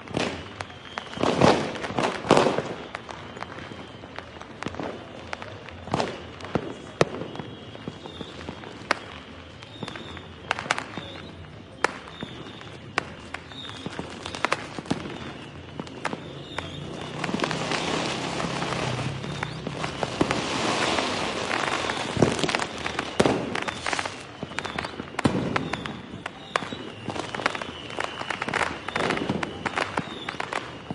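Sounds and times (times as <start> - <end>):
fireworks bangs and cracks: 0.0 - 30.9
fireworks crackling: 0.0 - 30.9.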